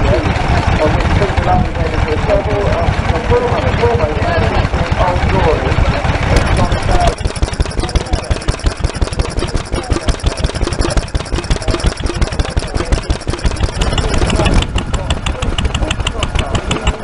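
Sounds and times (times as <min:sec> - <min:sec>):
stationary engine running: 0:00.0 - 0:17.0.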